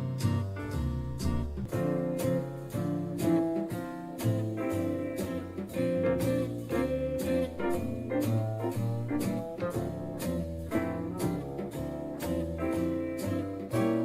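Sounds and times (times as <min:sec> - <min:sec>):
instrumental music through speaker: 0:00.0 - 0:14.0.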